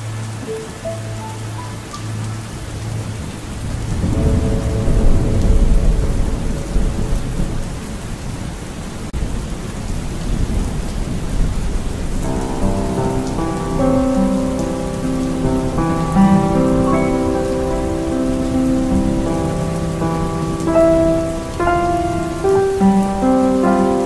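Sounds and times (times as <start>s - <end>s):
heavy rain: 0.0s - 24.0s
thunder rolling: 3.0s - 24.0s.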